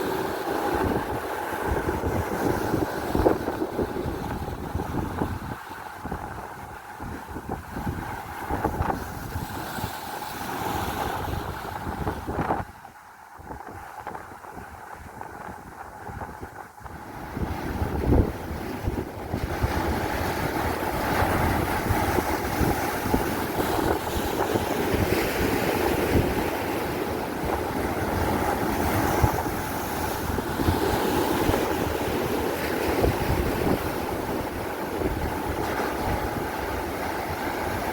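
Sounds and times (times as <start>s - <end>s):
waves washing around hull: 0.0s - 37.9s
wind buffeting microphone: 0.0s - 37.9s.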